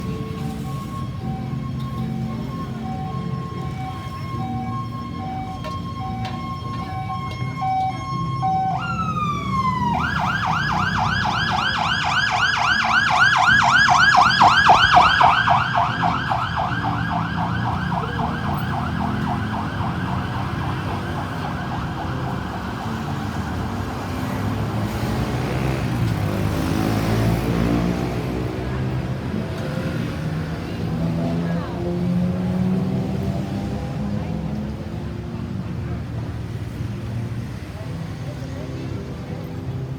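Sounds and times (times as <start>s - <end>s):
ambulance siren: 0.0s - 37.0s
road traffic rumble: 0.0s - 39.9s.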